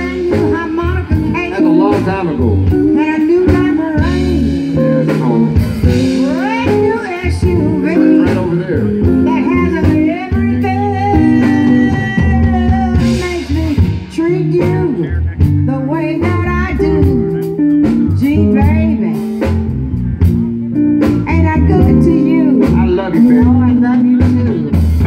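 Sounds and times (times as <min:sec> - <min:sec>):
person singing: 0:00.0 - 0:19.6, 0:20.3 - 0:25.0
blues band playing: 0:00.0 - 0:25.0
guitar bending notes: 0:00.0 - 0:25.0
steady drum beat: 0:00.0 - 0:25.0.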